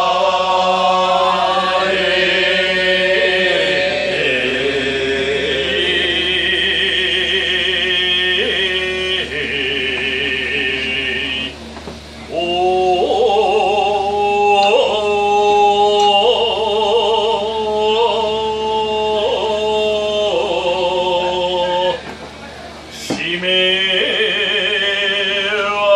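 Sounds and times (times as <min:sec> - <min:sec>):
person chanting long notes: 0:00.0 - 0:11.6, 0:12.2 - 0:22.1.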